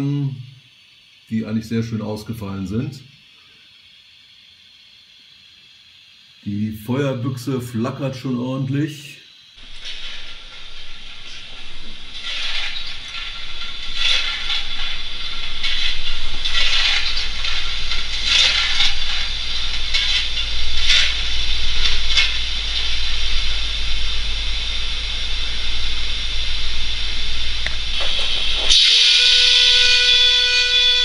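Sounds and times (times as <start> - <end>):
locomotive steam puffs: 0.0 - 24.1, 27.4 - 31.0
steam hiss: 0.0 - 31.0.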